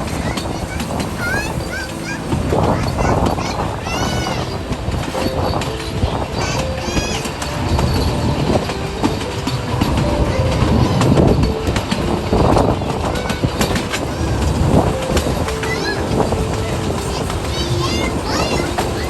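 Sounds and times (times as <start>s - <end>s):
train wheels clattering over rail joints: 0.0s - 19.0s.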